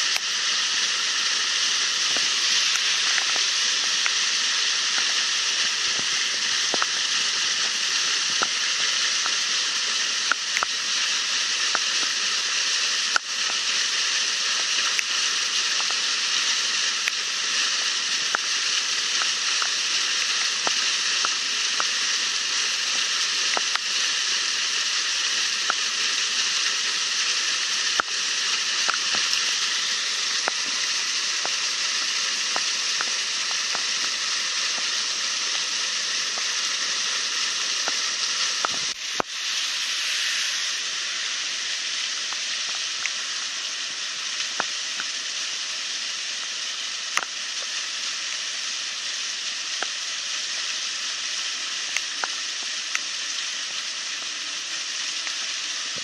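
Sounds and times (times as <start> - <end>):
water gushing from pipe: 0.0 - 56.0.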